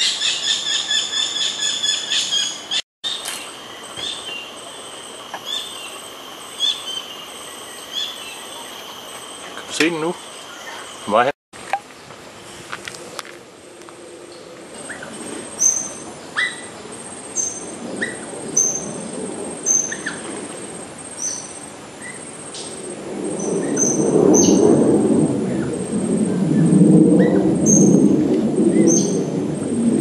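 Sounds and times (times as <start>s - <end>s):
insect trill: 0.0s - 11.3s, 13.6s - 29.9s.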